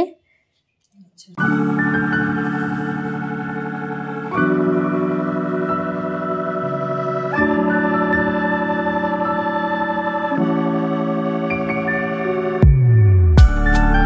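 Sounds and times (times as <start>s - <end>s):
organ-like music chords: 1.4s - 14.0s.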